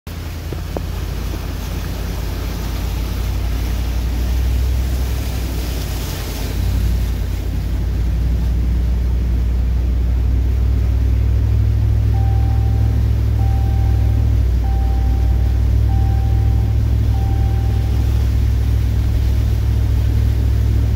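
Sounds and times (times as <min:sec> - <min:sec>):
vehicle low rumble: 0:00.1 - 0:20.9
water rushing against vehicle: 0:00.1 - 0:20.9.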